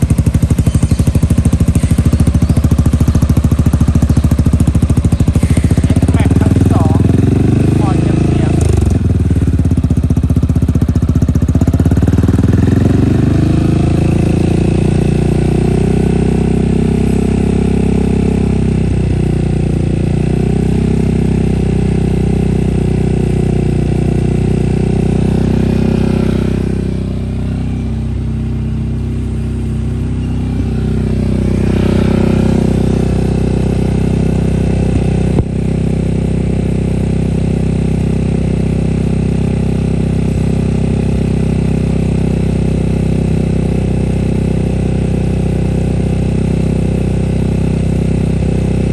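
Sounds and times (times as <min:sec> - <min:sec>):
scooter engine idling: 0:00.0 - 0:48.9.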